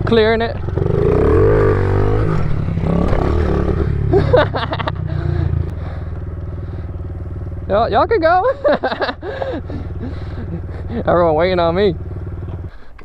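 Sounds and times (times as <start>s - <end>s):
small motorbike engine revving: 0.0s - 12.8s.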